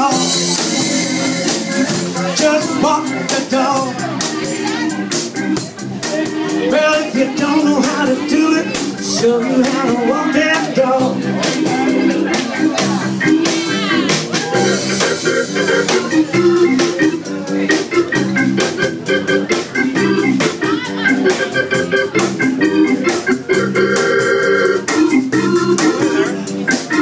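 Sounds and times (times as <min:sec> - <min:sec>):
bass: 0:00.0 - 0:27.0
drum beat: 0:00.0 - 0:27.0
electric organ: 0:00.0 - 0:27.0.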